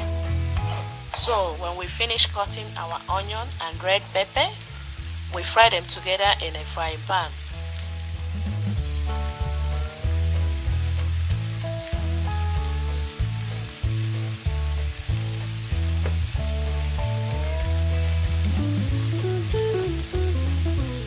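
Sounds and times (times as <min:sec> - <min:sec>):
music with rhythmic bass line: 0:00.0 - 0:21.0
vegetables sizzling in a frying pan: 0:00.0 - 0:21.0.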